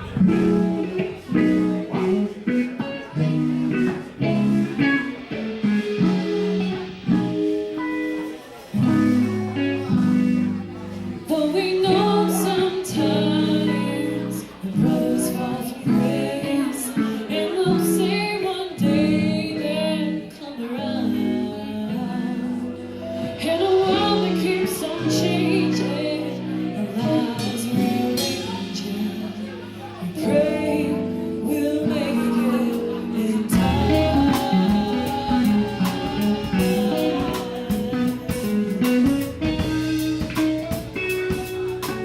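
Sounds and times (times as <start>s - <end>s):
guitar: 0.0s - 42.0s
live band playing: 0.0s - 42.0s
person singing: 0.0s - 42.0s.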